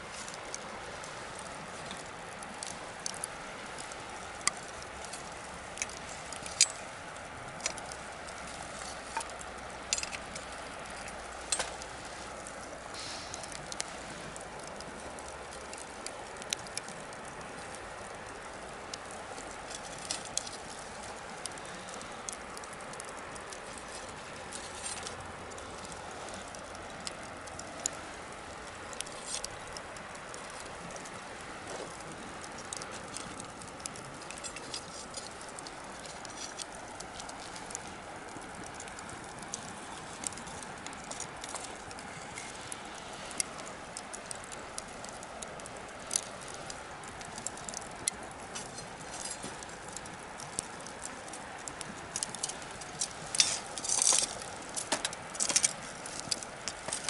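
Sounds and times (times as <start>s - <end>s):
bonfire crackling: 0.0s - 57.0s
steady low hiss: 0.0s - 57.0s.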